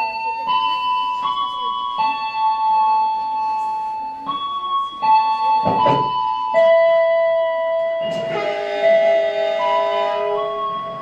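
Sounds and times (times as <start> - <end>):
slow piano-like keyboard melody: 0.0 - 11.0.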